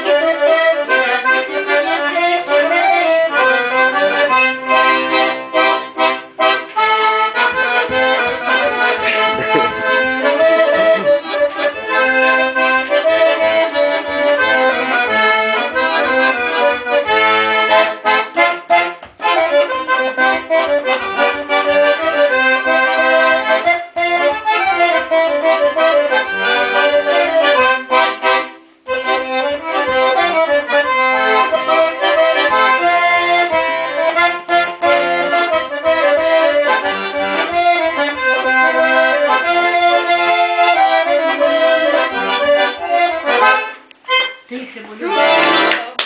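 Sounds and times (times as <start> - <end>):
button accordion playing a tune: 0.0 - 45.8.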